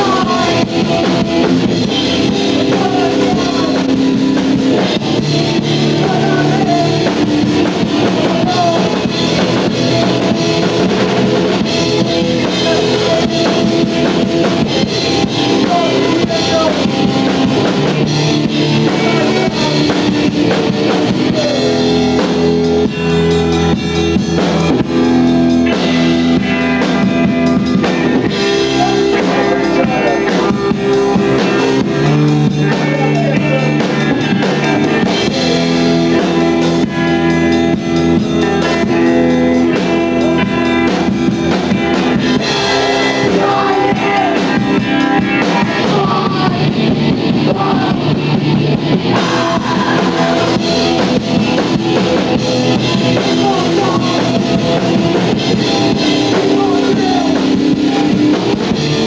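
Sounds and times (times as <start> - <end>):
drum kit: 0.0 - 59.0
electric guitar: 0.0 - 59.0
live rock band playing: 0.0 - 59.0.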